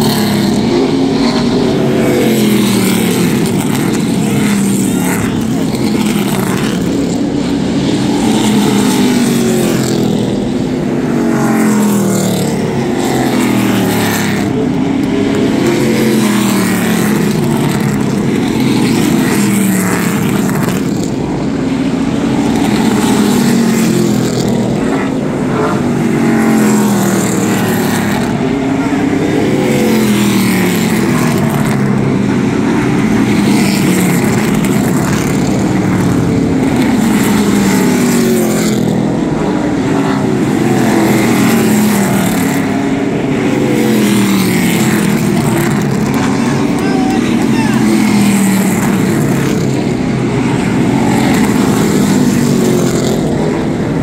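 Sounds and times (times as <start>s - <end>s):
racing car engines passing: 0.0s - 54.0s.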